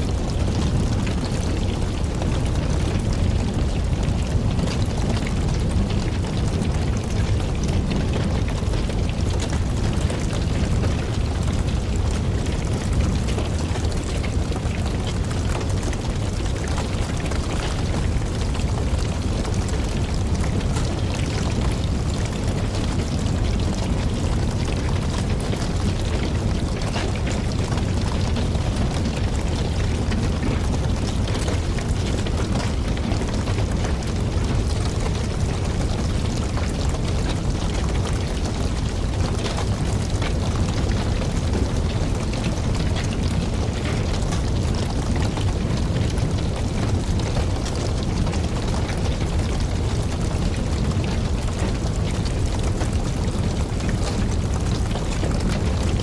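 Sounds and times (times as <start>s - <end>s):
fire crackling and popping: 0.0s - 56.0s
rumble of flames: 0.0s - 56.0s.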